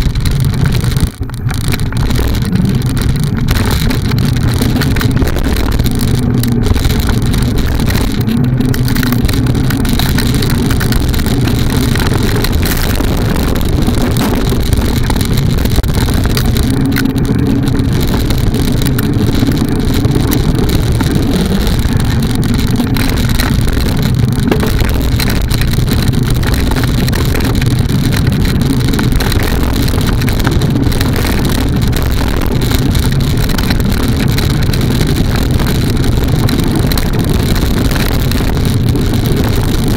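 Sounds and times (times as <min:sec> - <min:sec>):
bike tyres rumbling on trail: 0:00.0 - 0:39.9
wind buffeting microphone: 0:00.0 - 0:39.9.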